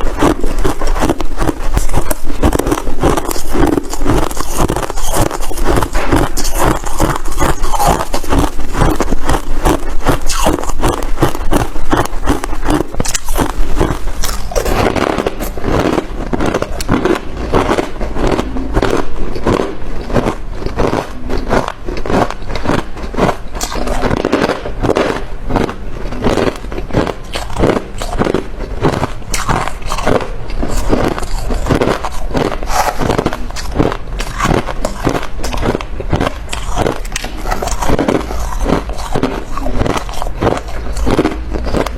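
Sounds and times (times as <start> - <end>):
person crunching ice: 0.0 - 41.9.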